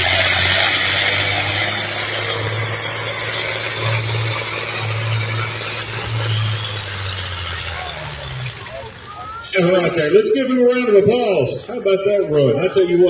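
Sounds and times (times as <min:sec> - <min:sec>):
engine running under full load: 0:00.0 - 0:13.0.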